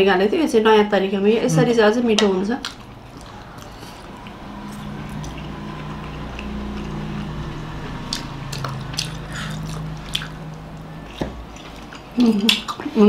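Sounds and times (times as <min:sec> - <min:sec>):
low steady hum: 0:00.0 - 0:13.0
chewing with wet mouth sounds: 0:02.1 - 0:13.0.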